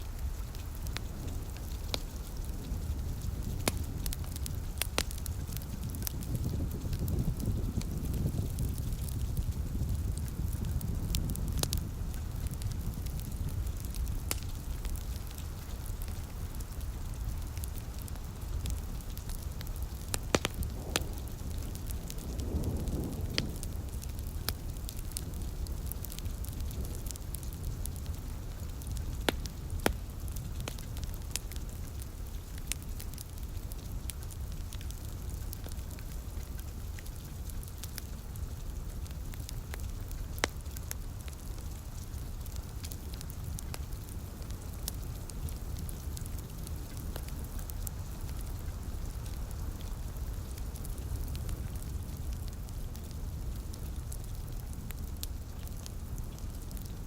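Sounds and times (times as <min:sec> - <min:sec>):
light rain hiss: 0:00.0 - 0:57.0
wood fire crackling and popping: 0:00.0 - 0:57.0.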